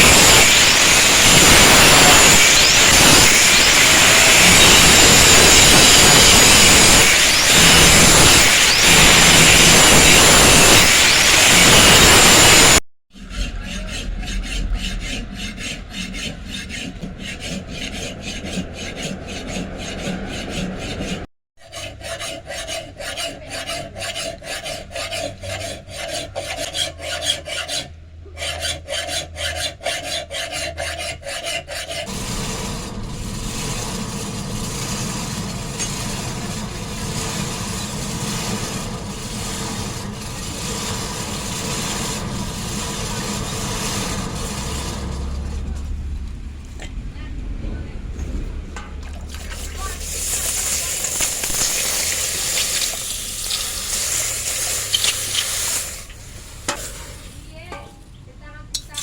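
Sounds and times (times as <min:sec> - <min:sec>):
blade scraping with abrasive: 0:00.0 - 0:59.0.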